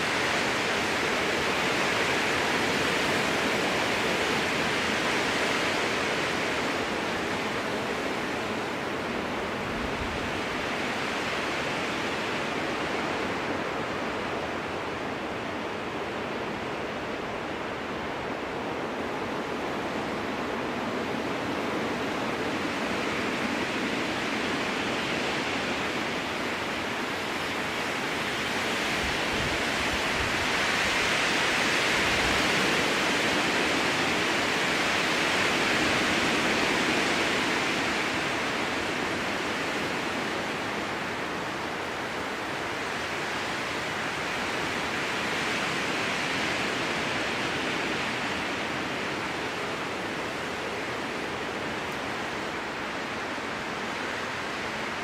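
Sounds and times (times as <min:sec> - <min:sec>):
strong wind through forest: 0:00.0 - 0:55.0.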